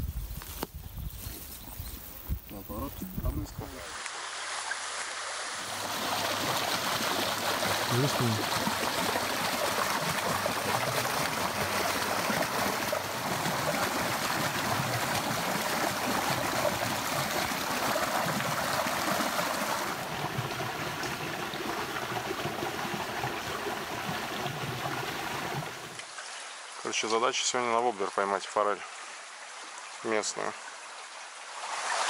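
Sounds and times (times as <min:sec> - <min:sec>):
creek water rushing: 0:02.5 - 0:32.0.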